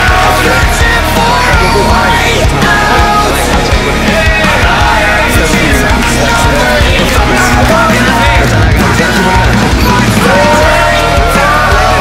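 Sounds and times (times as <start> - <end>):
loud rap-rock music: 0.0 - 12.0.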